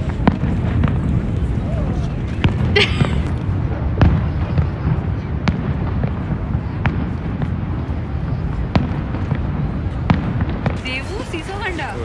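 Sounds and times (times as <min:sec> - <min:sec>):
distant fireworks popping: 0:00.0 - 0:12.0.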